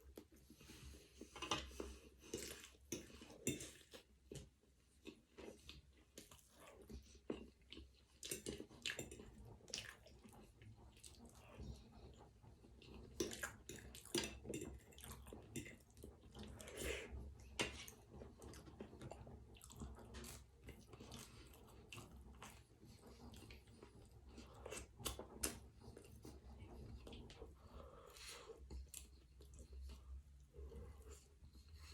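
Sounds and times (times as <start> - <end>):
person chewing food: 0.1 - 31.9.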